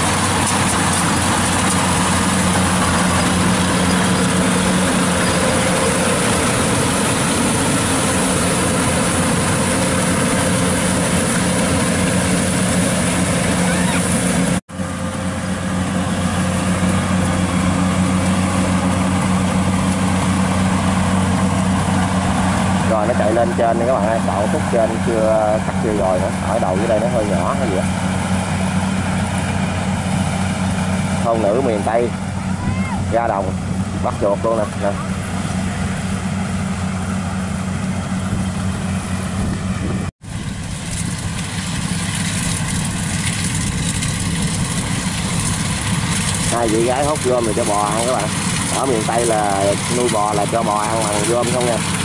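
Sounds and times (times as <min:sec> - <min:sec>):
combine harvester mechanical rush: 0:00.0 - 0:52.0
diesel engine drone: 0:00.0 - 0:52.0.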